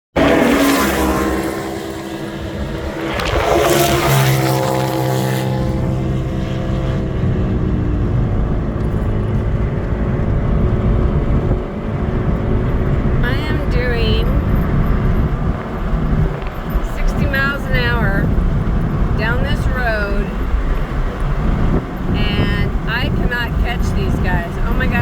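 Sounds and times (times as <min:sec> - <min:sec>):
off-road vehicles speeding past: 0:00.2 - 0:25.0
wind rumble on microphone: 0:00.2 - 0:25.0.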